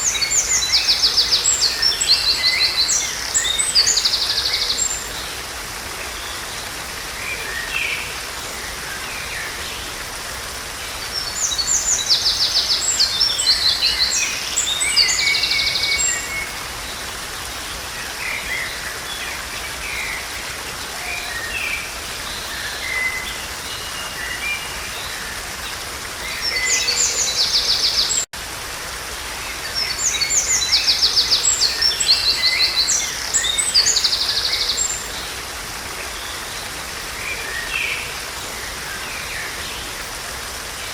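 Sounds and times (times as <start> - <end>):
songbirds singing: 0.0 - 40.9
stream rushing: 0.0 - 40.9.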